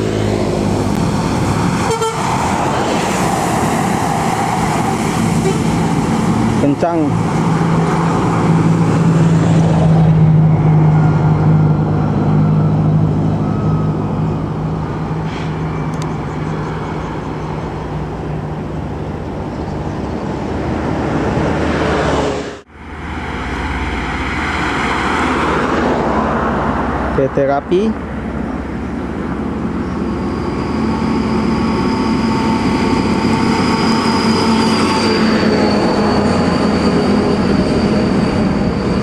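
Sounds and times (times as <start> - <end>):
bus passing at speed: 0.0 - 39.0
road noise: 0.0 - 39.0
vehicle noise: 0.0 - 39.0.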